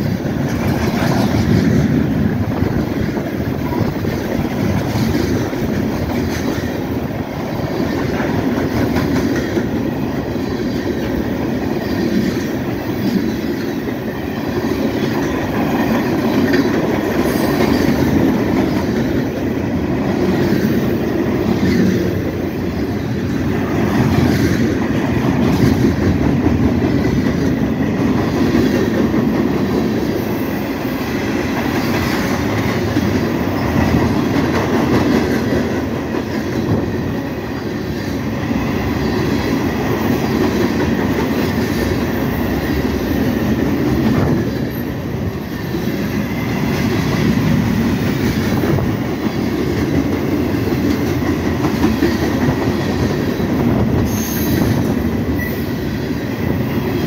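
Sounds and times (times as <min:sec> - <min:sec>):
freight cars rolling on rails: 0:00.0 - 0:57.0.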